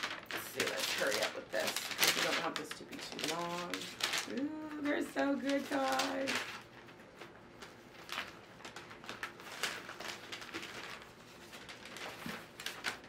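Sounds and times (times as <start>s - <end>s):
tissue paper rustling: 0.0s - 13.0s.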